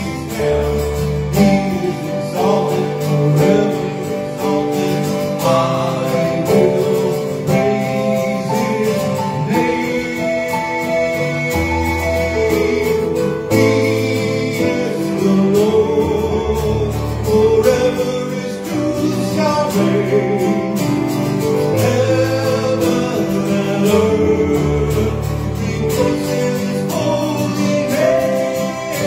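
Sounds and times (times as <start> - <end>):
acoustic guitar: 0.0 - 29.0
keyboard: 0.0 - 29.0
man singing worship song: 0.0 - 29.0.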